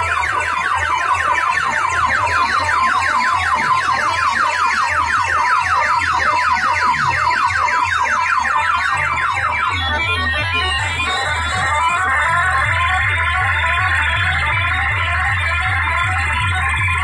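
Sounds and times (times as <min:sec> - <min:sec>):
deep pulsing bass: 0:00.0 - 0:17.0
electronic siren-like warble: 0:00.0 - 0:17.0.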